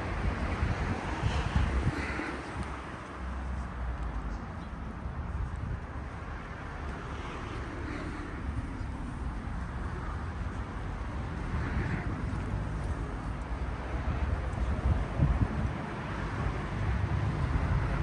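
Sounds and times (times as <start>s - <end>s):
low rumble of distant traffic: 0.0s - 18.0s.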